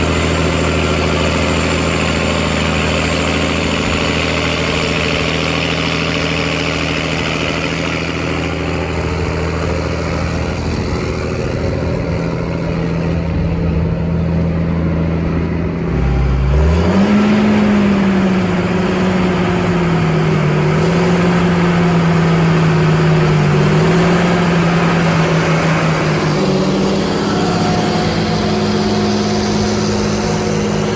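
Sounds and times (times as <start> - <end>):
cartoon engine humming and revving: 0.0 - 30.9.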